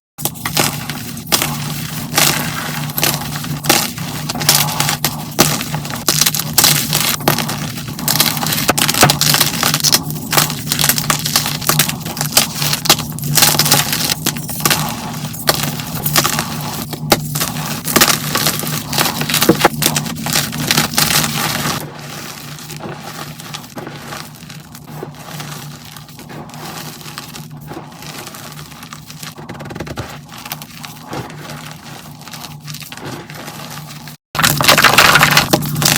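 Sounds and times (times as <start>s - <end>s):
chalk blocks crunching: 0.2s - 35.9s.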